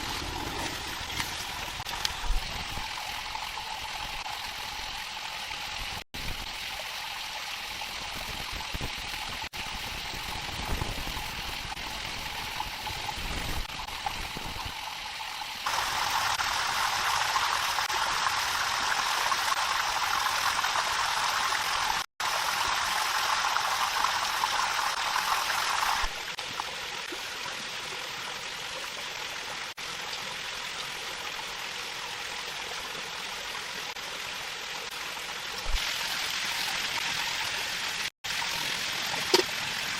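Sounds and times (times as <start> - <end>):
running water stream: 0.0 - 39.9.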